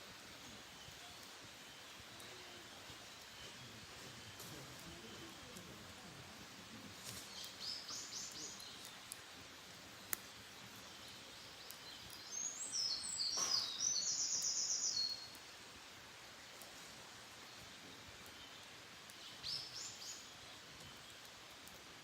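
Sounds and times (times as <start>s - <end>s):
songbird singing: 0.1s - 15.6s, 16.2s - 21.8s.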